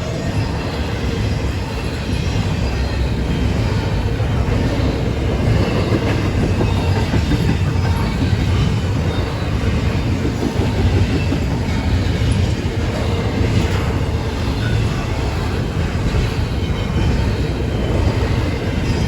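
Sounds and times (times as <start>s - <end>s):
freight train rolling past: 0.0s - 19.0s
wheels clattering on rails: 0.0s - 19.0s.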